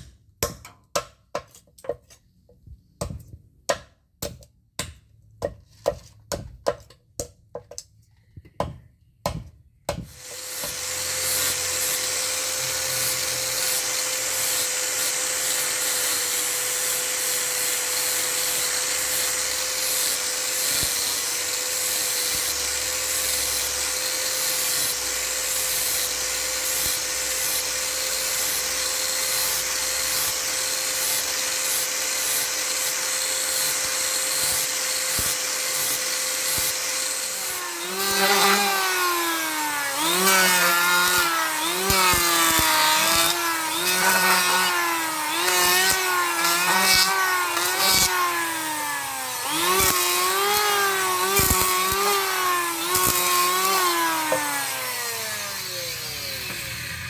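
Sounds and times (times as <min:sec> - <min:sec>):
angle grinder grinding wood: 0:10.1 - 0:57.0.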